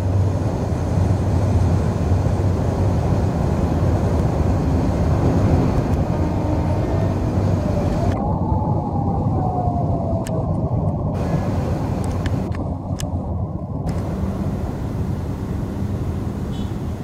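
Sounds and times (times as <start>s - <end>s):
train coaches rumbling on track: 0.0s - 8.2s, 11.1s - 17.0s.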